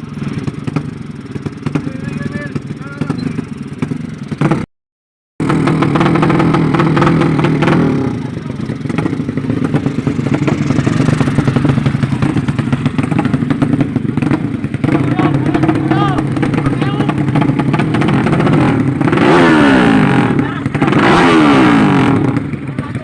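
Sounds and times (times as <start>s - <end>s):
motorcycle engines revving loudly: 0.0s - 4.7s, 5.4s - 23.0s.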